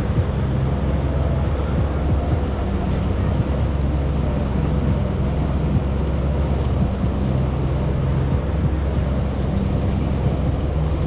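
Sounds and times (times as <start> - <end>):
jet ski engine droning: 0.0 - 11.0.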